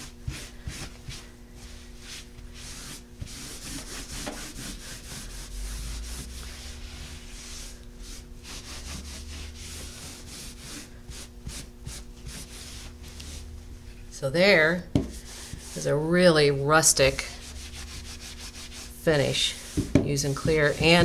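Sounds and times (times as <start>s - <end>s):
cloth rubbing textured surface: 0.0s - 13.5s, 17.4s - 21.0s.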